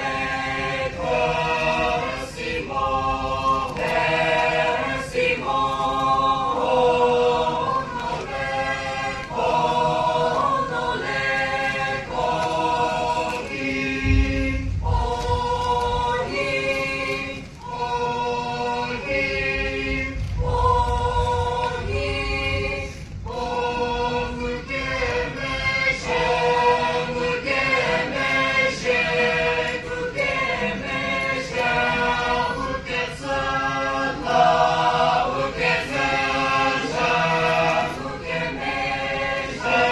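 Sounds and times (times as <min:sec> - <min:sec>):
group singing in harmony: 0:00.0 - 0:39.9.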